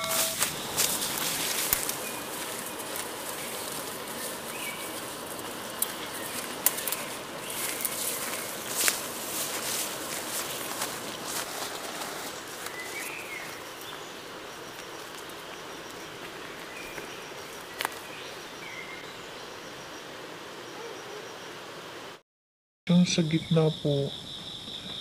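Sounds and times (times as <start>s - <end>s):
faint insect trill: 0.0s - 22.2s, 22.9s - 25.0s
steady woodland hiss: 0.0s - 22.2s.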